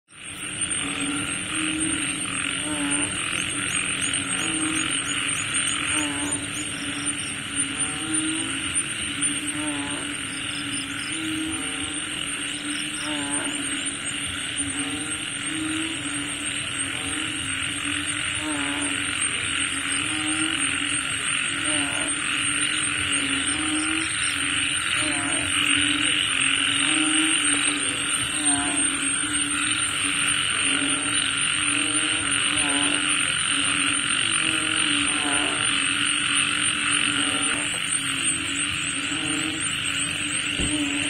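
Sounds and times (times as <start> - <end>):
frogs croaking: 0.1 - 41.0
higher frog call: 0.1 - 41.0
thin high whine: 0.1 - 41.0
steady hiss: 0.2 - 41.0.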